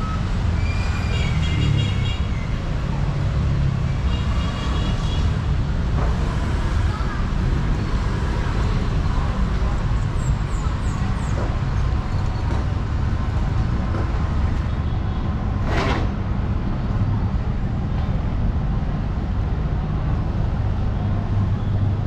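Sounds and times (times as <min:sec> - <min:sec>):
traffic engine rumble: 0:00.0 - 0:22.0.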